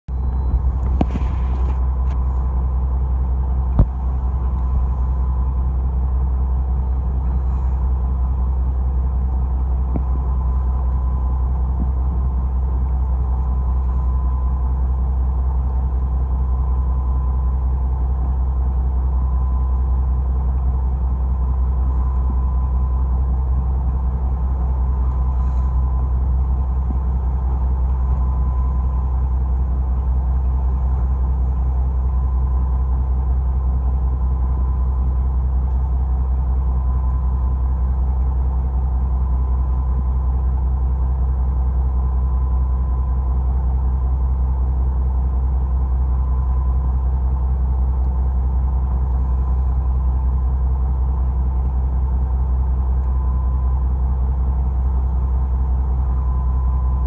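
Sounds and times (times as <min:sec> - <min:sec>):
boat engine humming: 0:00.1 - 0:57.0
thin steady whine: 0:00.1 - 0:57.0.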